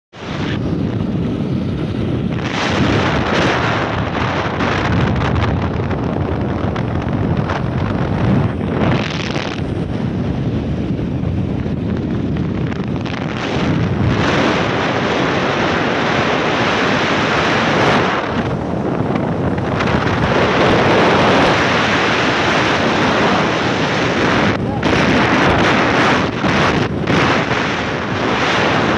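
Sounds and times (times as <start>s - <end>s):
wind rushing over microphone: 0.1s - 28.9s.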